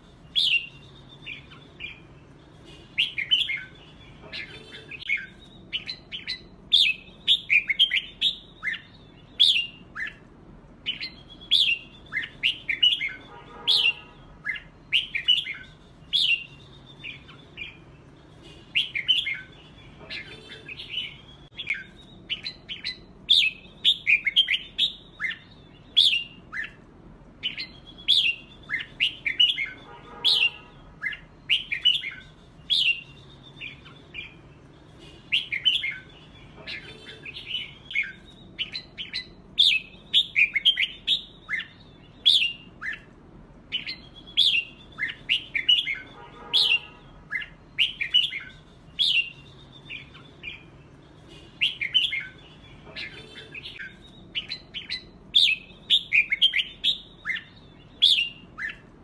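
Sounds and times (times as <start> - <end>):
birds whistling and chirping: 0.0 - 59.0.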